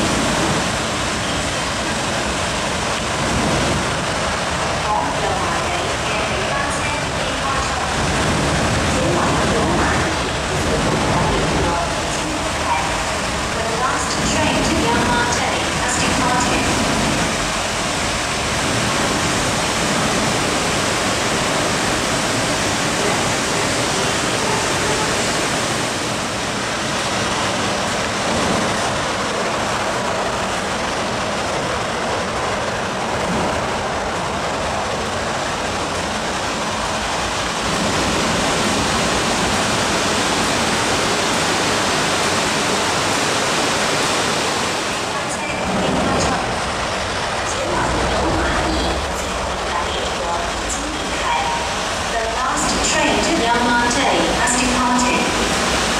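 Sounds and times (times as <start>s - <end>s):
train rushing rumble: 0.0s - 55.9s.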